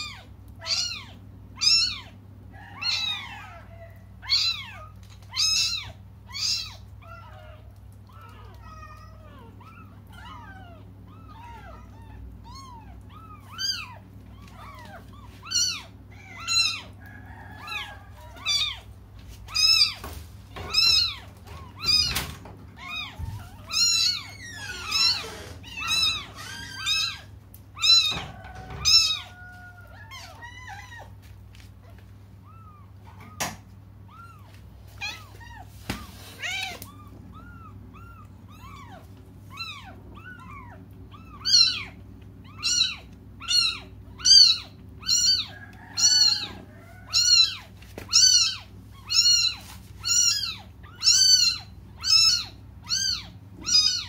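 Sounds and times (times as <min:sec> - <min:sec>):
faint low hum: 0:00.0 - 0:54.0
kittens mewing: 0:00.0 - 0:54.0.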